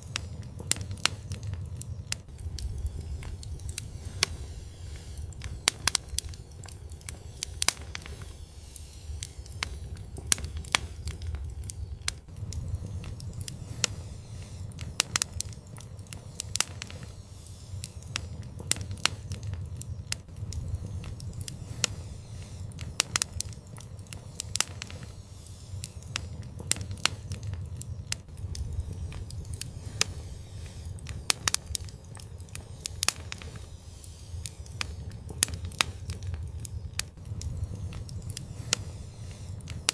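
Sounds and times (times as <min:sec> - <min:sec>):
fire crackling and popping: 0:00.0 - 0:39.9
wood fire rumbling: 0:00.0 - 0:39.9.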